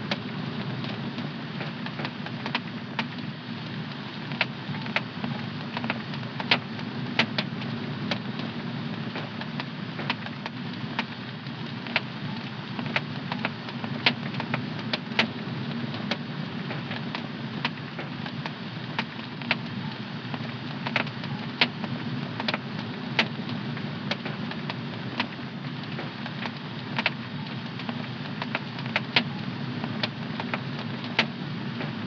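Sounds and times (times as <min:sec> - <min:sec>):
fire crackling in fireplace: 0:00.0 - 0:32.0.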